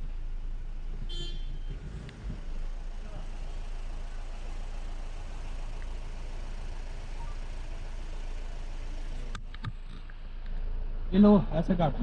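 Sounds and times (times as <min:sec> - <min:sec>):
car engine idling: 0:00.0 - 0:12.0
traffic hum and hiss: 0:00.0 - 0:12.0.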